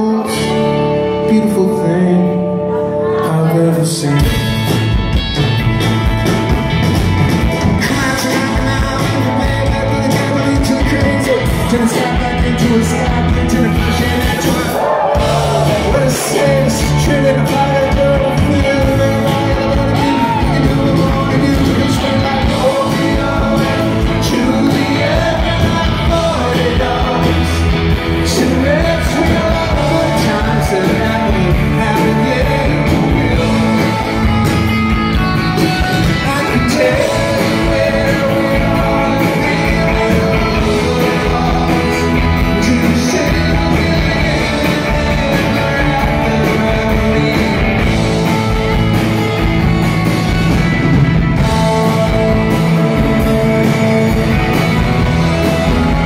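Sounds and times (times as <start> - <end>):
man singing: 0.0 - 5.0, 7.5 - 48.8, 51.4 - 56.0
electric guitars: 0.0 - 56.0.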